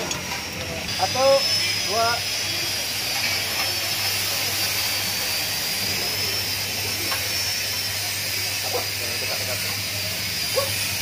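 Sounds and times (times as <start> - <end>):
coffee roaster fans rushing: 0.0 - 11.0
thin high whine: 0.0 - 11.0.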